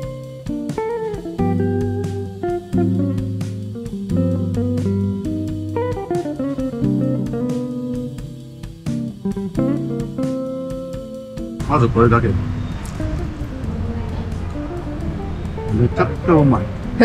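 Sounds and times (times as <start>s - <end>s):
plucked guitar: 0.0s - 17.0s
bass line: 1.2s - 17.0s.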